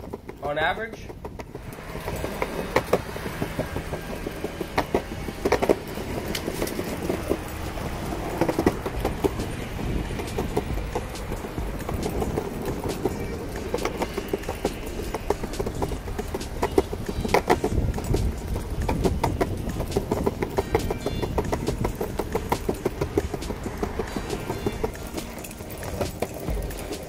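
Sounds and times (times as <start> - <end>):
footsteps: 0.0 - 27.0
small irregular clicks: 0.0 - 27.0.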